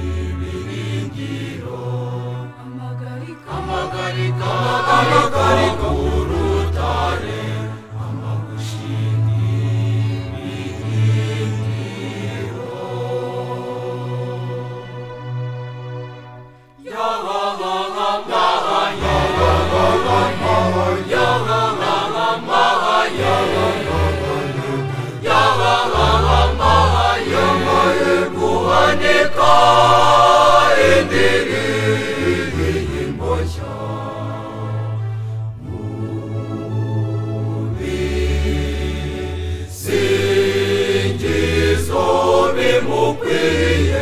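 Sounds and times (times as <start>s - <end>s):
choir singing a hymn: 0.0s - 16.2s, 16.8s - 44.0s.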